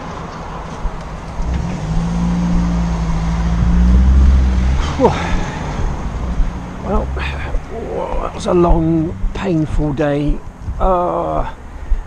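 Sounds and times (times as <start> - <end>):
vehicle engine running: 0.8 - 11.2.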